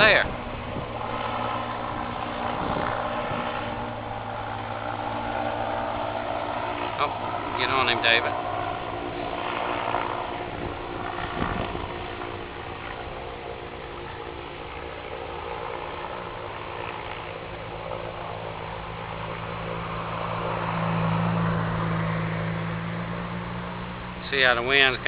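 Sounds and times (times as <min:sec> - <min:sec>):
airship propeller engines droning: 0:00.0 - 0:25.0.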